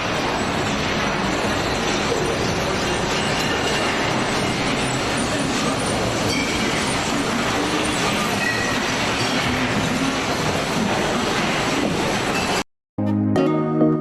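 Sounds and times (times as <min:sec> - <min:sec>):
machinery rumble and rattle: 0:00.0 - 0:12.6.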